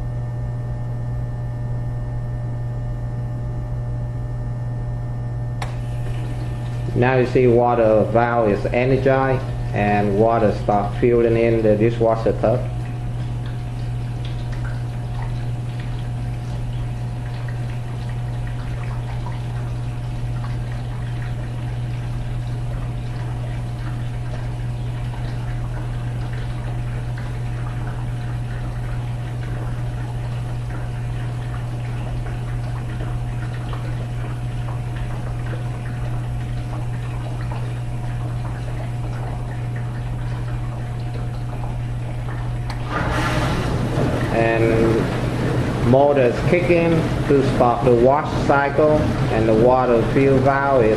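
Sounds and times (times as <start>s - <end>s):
constant low hum: 0.0s - 50.9s
water rushing into dishwasher: 5.6s - 50.9s.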